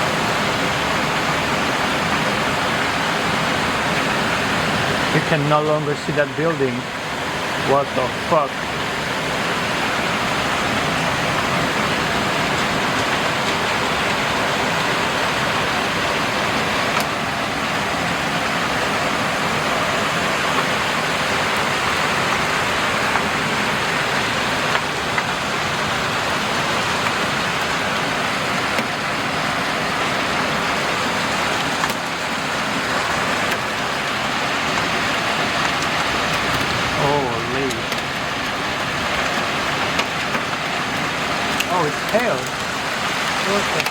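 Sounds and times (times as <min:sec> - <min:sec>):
heavy rain downpour: 0:00.0 - 0:43.9.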